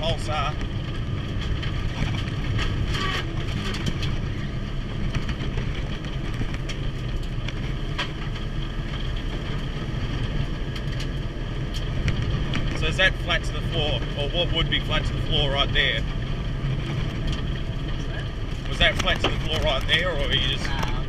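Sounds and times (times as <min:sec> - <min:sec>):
car engine droning: 0:00.0 - 0:21.0
road noise: 0:00.0 - 0:21.0.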